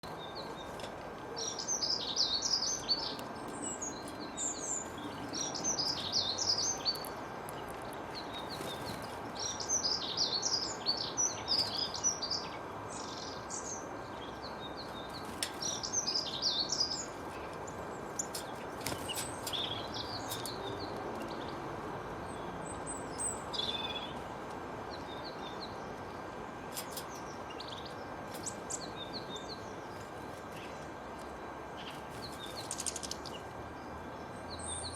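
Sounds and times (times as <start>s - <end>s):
songbirds twittering: 0.0s - 34.9s
steady background hiss: 0.0s - 34.9s.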